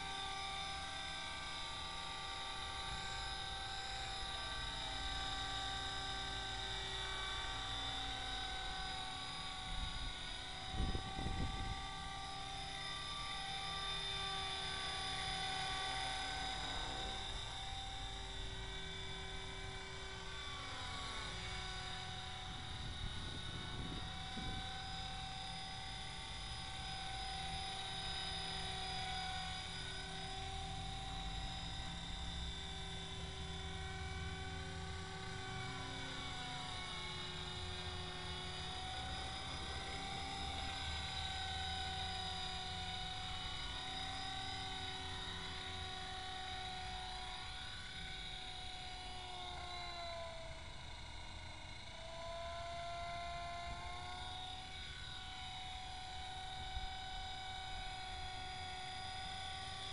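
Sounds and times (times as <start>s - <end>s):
rc helicopter motor whine: 0.0s - 59.9s
rotor hum: 0.0s - 59.9s.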